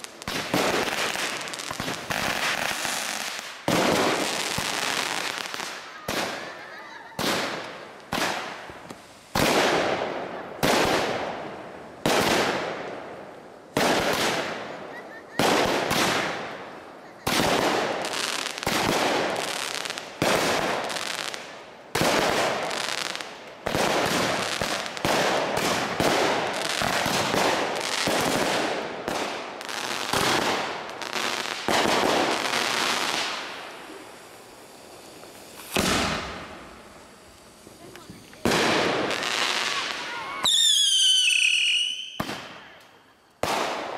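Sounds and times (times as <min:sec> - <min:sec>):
fireworks bursting with echo: 0:00.0 - 0:43.9.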